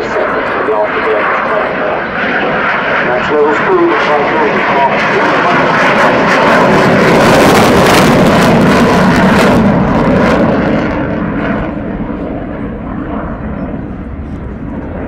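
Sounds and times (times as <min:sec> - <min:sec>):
crackling jet roar: 0:00.0 - 0:15.0.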